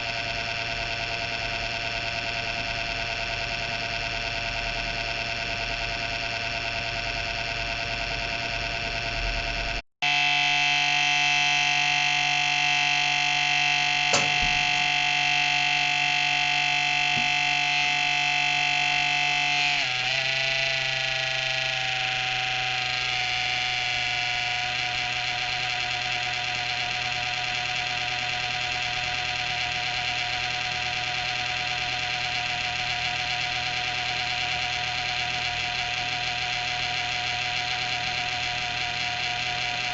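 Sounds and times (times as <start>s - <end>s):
computer whining drone: 0.0s - 39.9s.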